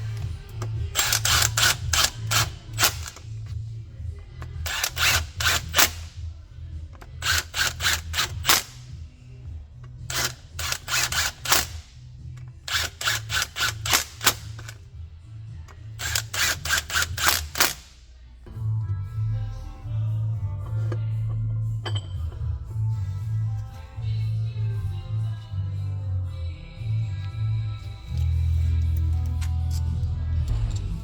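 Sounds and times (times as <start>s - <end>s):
background music with bass: 0.0s - 31.0s.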